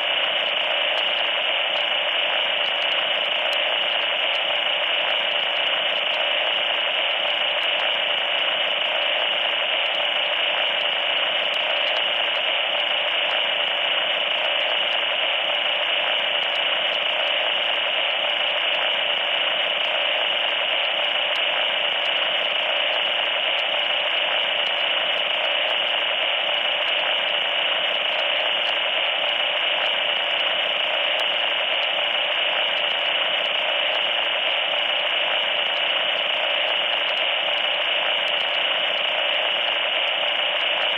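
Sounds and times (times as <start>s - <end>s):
electronic static hiss: 0.0s - 40.9s.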